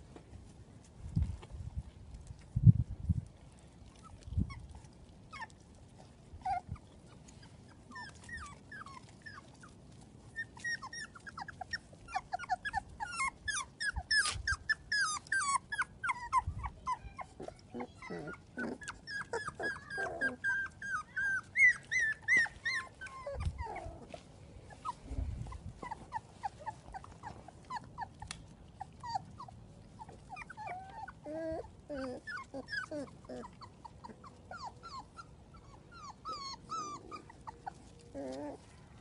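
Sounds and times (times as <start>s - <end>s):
puppies whimpering: 3.9s - 39.0s.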